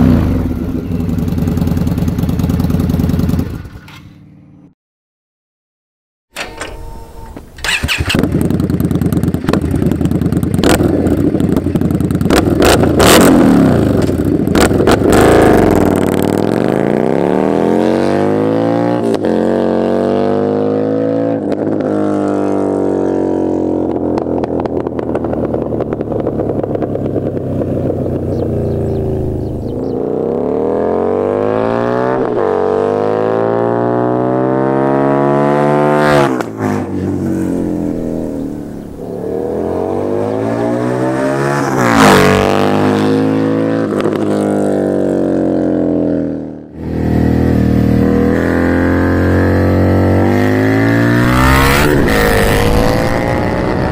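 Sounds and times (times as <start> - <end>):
motorcycle engine revving: 0.0 - 4.7, 6.4 - 53.9.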